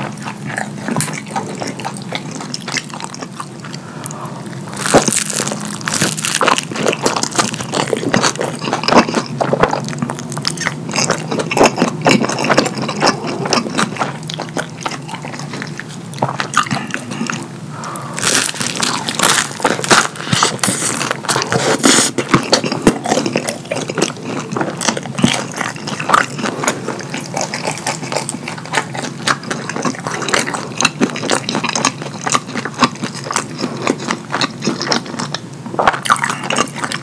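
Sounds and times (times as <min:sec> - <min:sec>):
wet chewing and lip-smacking: 0:00.0 - 0:37.0.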